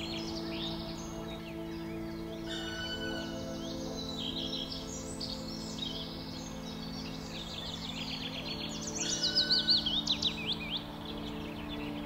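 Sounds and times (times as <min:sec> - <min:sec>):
small songbirds chirping: 0:00.0 - 0:12.0.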